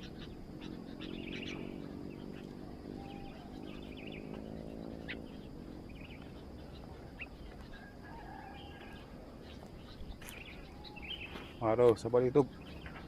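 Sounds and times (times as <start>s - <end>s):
low hum: 0.0s - 11.6s
faint bird chirps: 0.0s - 13.0s.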